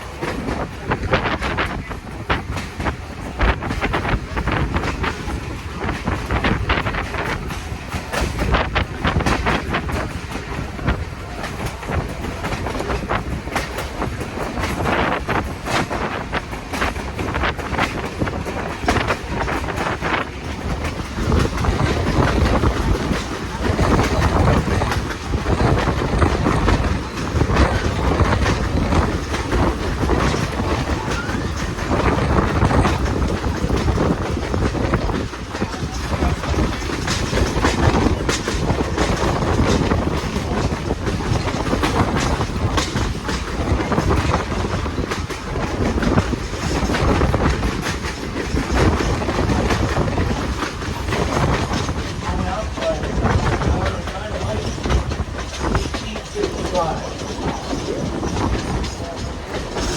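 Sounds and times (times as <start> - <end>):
train rumbling on track: 0.0 - 59.9
wheels clicking over rail joints: 0.0 - 59.9.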